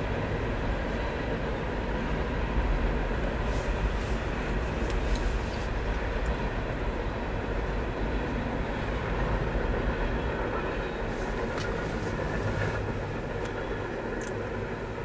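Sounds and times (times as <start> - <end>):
steel wheels rumbling on rails: 0.0 - 15.0.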